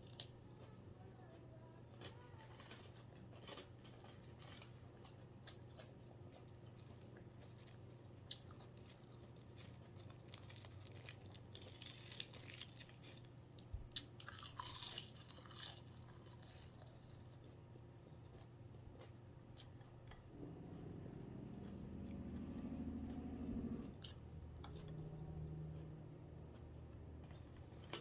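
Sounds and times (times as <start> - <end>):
low steady hum: 0.0 - 28.0
person chewing crunchy food: 1.9 - 28.0.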